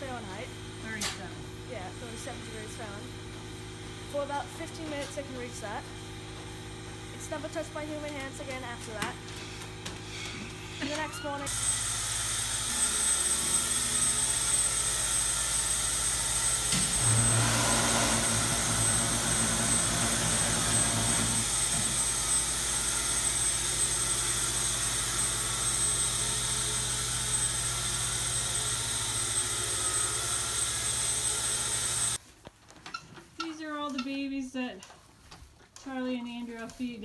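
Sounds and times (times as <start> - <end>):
machine hum with high whine: 0.0 - 32.2.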